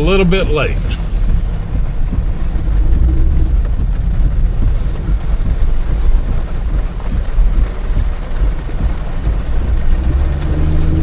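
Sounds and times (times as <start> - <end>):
car road and engine rumble: 0.0 - 11.0
rain and wet tyres hiss: 0.0 - 11.0.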